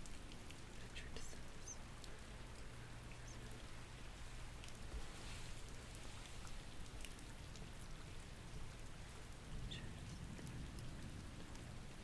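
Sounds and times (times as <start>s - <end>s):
water dripping: 0.0s - 4.9s, 5.7s - 12.0s
rain falling: 0.0s - 12.0s.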